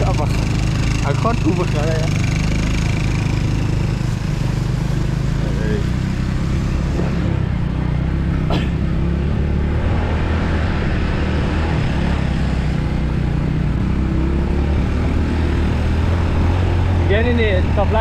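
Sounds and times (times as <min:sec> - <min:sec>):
motorcycle engine running: 0:00.0 - 0:18.0
wind and road noise: 0:00.0 - 0:18.0.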